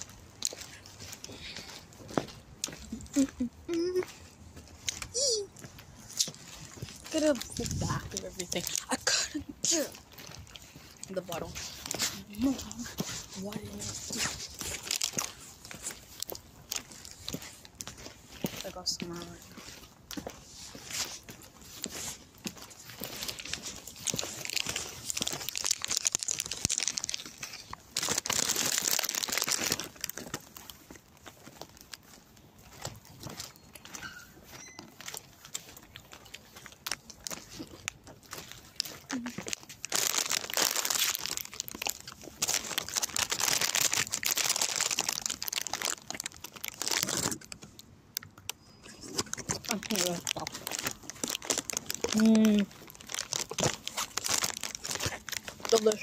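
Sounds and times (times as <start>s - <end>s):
crinkling and rustling: 0.0s - 56.0s.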